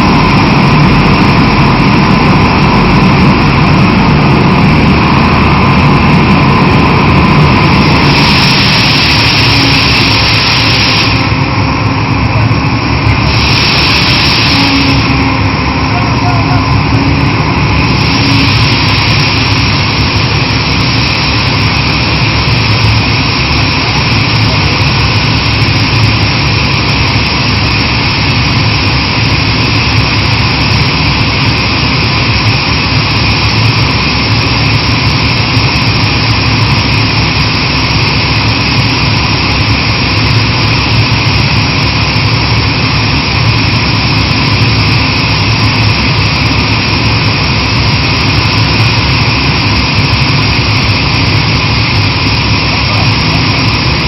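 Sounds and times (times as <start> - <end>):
drilling rig engine running: 0.0 - 54.0.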